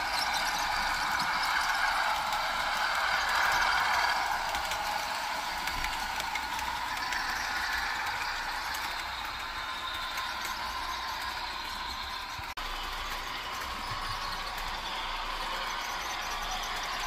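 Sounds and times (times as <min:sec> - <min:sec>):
model train clicking on track: 0:00.0 - 0:17.0.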